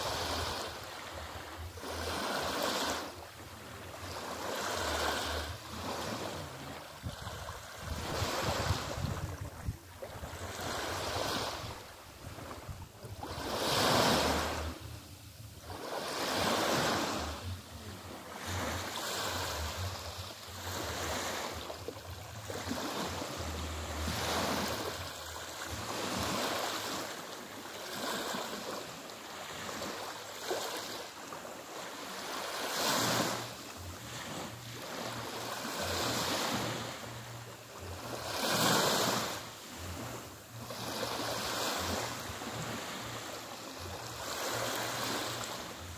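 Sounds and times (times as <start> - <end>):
small waves lapping on beach: 0.0 - 45.9.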